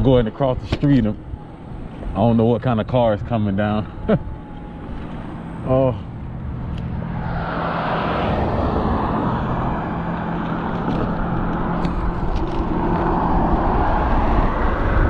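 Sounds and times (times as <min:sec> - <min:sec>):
car hum and tyre rush: 0:00.0 - 0:15.0.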